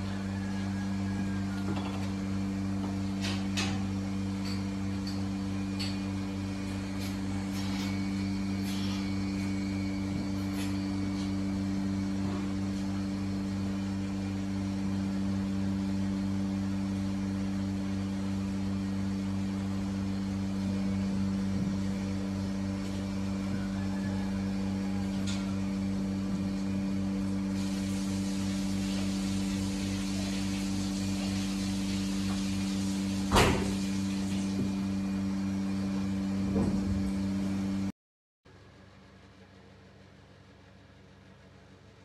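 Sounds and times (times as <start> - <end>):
machinery electrical hum: 0.0 - 37.9, 38.5 - 42.0.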